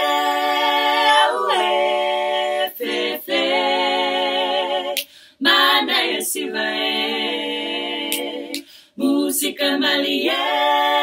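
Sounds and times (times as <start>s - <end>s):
women singing a cappella in harmony: 0.0s - 11.0s.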